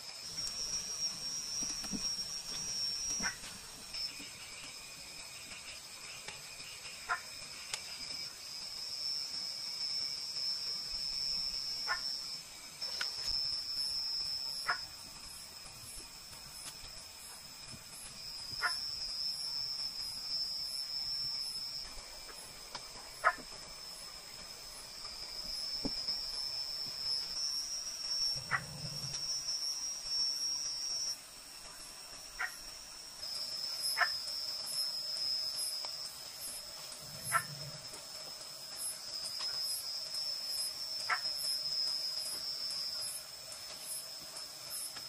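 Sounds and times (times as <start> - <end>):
crickets and insects trilling: 0.0 - 45.0.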